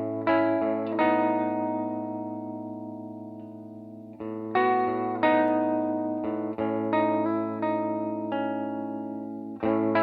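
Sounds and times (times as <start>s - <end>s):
electric guitar chords: 0.0s - 10.0s.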